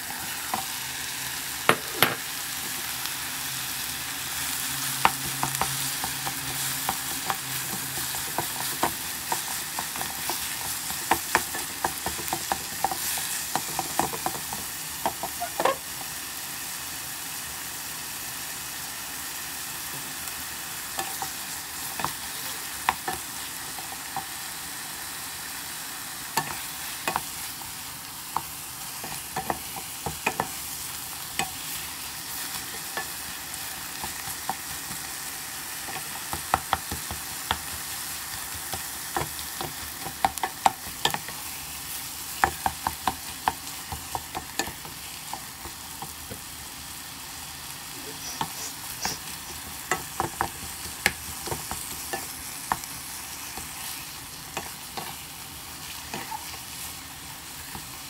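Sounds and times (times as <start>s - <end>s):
food sizzling in a pot: 0.0s - 58.0s.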